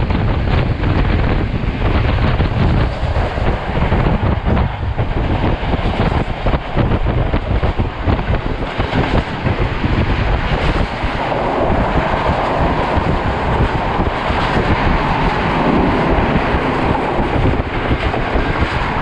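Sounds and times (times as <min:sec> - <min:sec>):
train wheels rushing on rails: 0:00.0 - 0:19.0
wind buffeting microphone: 0:00.0 - 0:19.0.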